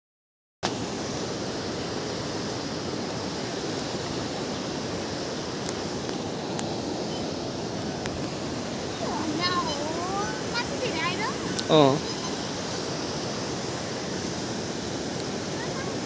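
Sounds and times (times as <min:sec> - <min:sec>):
river water rushing: 0:00.6 - 0:16.0.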